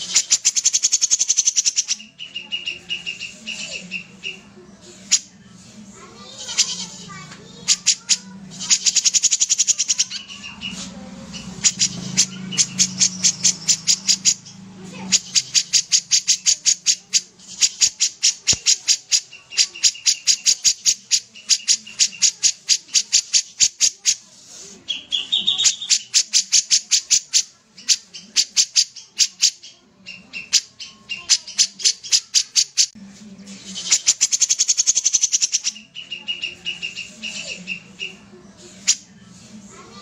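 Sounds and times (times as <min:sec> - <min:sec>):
bird singing rapid notes: 0:00.0 - 0:04.5, 0:06.4 - 0:24.2, 0:24.9 - 0:33.0, 0:33.6 - 0:39.1.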